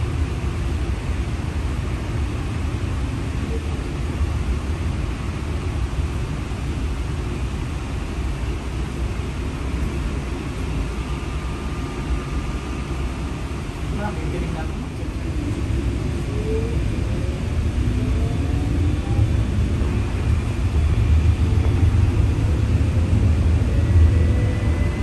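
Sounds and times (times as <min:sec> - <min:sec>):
streetcar rumbling along track: 0:00.0 - 0:25.0.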